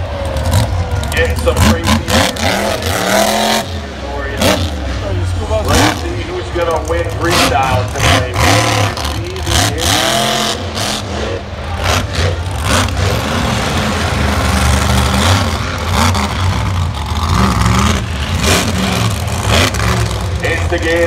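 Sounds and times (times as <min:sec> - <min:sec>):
monster truck engine revving: 0:00.0 - 0:21.0.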